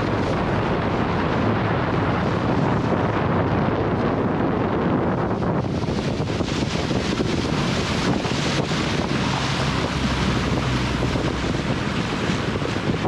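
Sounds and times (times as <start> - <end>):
low engine hum: 0.0 - 13.0
water rushing past boat: 0.0 - 13.0
wind buffeting microphone: 0.0 - 13.0.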